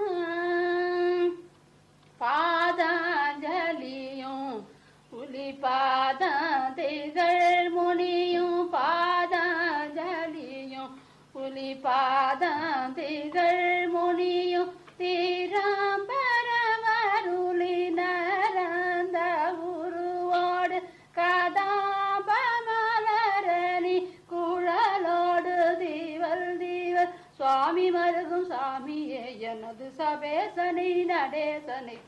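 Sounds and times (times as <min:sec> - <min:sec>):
woman singing devotional song: 0:00.0 - 0:32.0.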